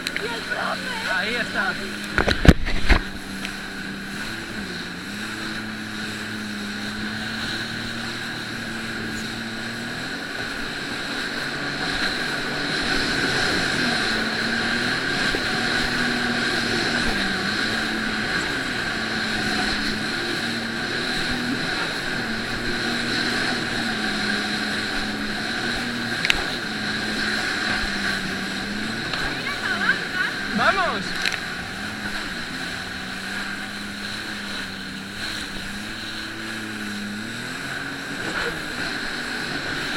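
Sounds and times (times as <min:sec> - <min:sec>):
hiss of wind and water: 0:00.0 - 0:39.9
jet ski engine droning: 0:00.0 - 0:39.9.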